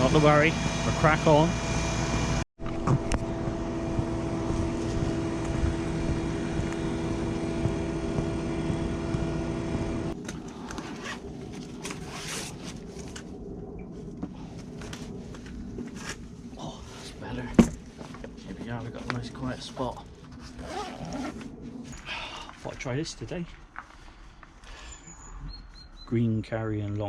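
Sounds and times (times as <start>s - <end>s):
engine drone: 0.0s - 23.3s.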